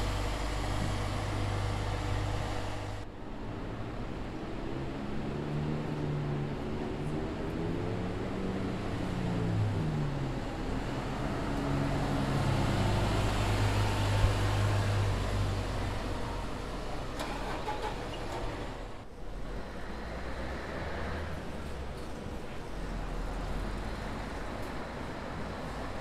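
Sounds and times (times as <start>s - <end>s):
bus engine pulling away: 0.0s - 26.0s.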